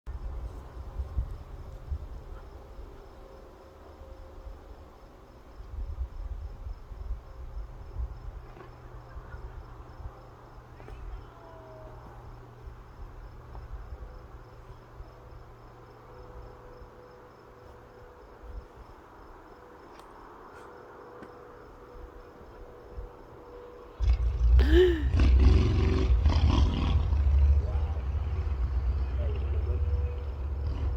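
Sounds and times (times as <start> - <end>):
crickets chirping: 0.1 - 30.9.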